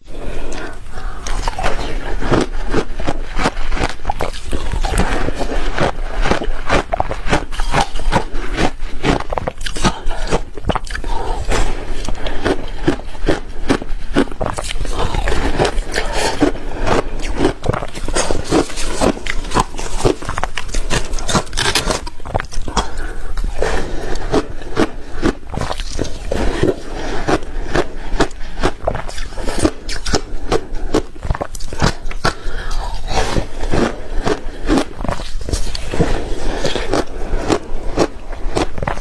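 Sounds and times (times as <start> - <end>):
ice being chewed: 0.1 - 39.0.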